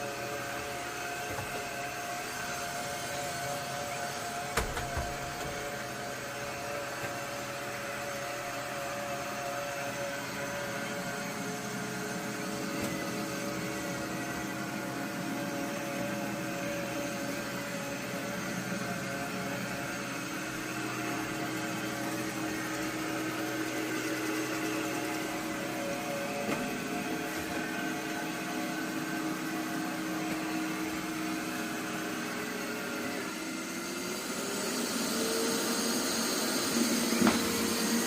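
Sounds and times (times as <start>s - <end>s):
robot vacuum whirring: 0.0s - 38.0s.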